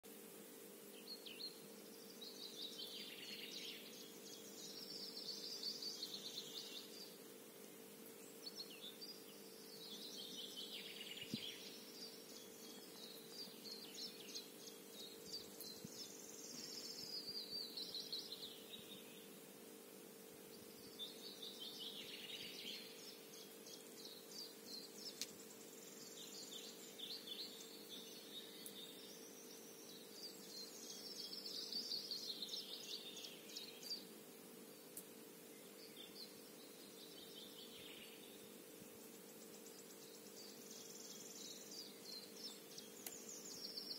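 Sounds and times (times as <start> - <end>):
faint low hum: 0.1 - 43.9
songbirds singing: 0.1 - 43.9.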